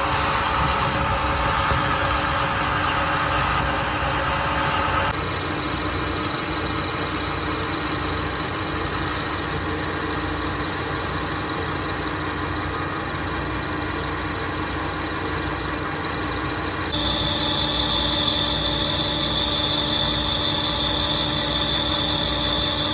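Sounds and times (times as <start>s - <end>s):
metal-working machine running: 0.0s - 22.9s
thin high whine: 0.0s - 22.9s.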